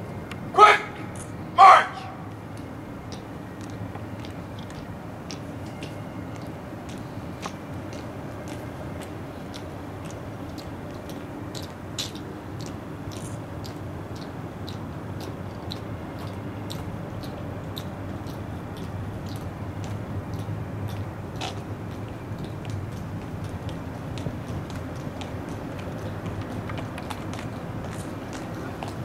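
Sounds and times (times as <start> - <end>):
outdoor background noise: 0.0 - 29.0
marching footsteps clicking: 0.3 - 29.0.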